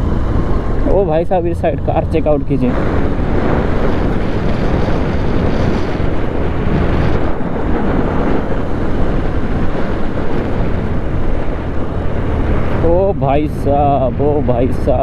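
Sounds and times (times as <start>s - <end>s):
motorcycle engine running: 0.0s - 15.0s
wind rumbling on microphone: 0.0s - 15.0s.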